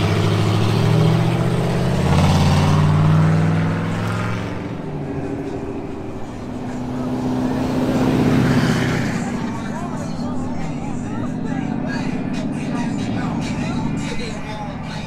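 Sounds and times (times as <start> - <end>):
pickup truck engine droning: 0.0 - 15.0.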